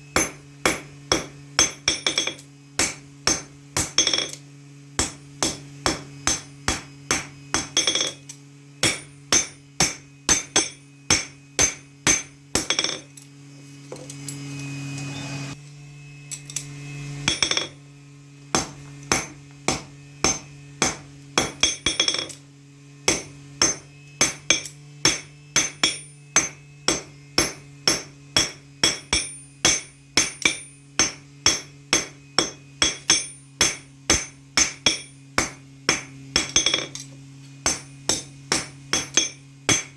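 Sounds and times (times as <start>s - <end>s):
steady low hum: 0.0s - 39.9s
hammer blows ringing on metal: 0.1s - 4.4s, 5.0s - 13.1s, 18.5s - 22.4s, 23.0s - 37.0s, 37.6s - 39.9s.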